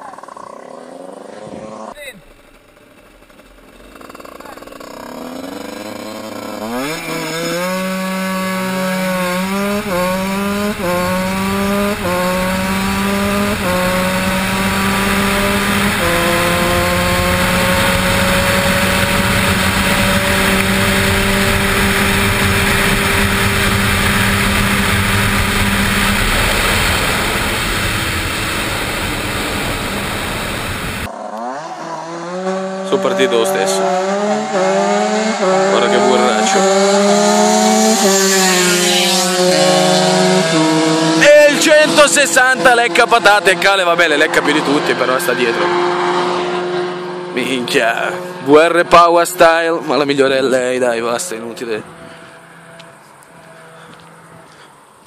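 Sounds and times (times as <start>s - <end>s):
motorcycle accelerating through gears: 0.0s - 55.0s.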